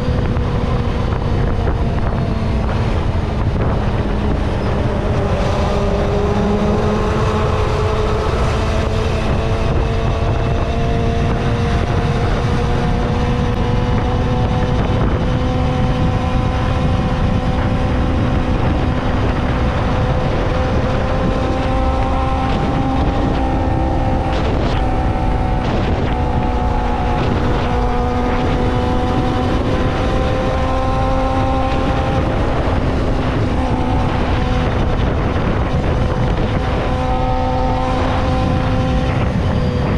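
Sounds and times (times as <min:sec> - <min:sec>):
motorcycle engine at high revs: 0:00.0 - 0:39.9
wind rumble on microphone: 0:00.0 - 0:39.9.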